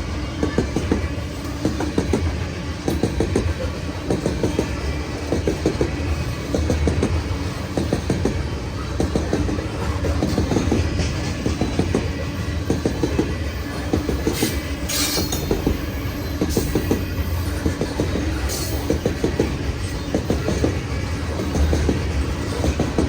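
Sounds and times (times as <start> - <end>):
train rumbling past: 0.0 - 23.0
wheels clacking over rail joints: 0.3 - 23.0.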